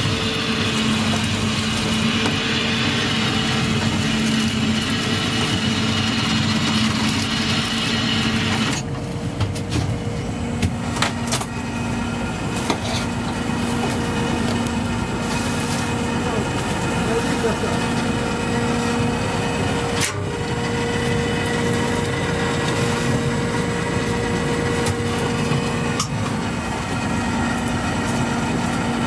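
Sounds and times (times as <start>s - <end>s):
boat engine and net hauler humming: 0.0s - 29.0s.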